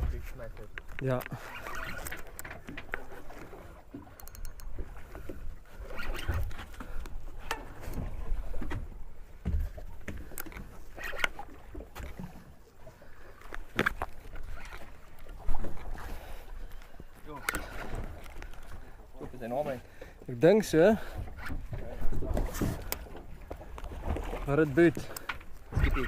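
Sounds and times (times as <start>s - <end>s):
water slapping against hull: 0.0s - 26.0s.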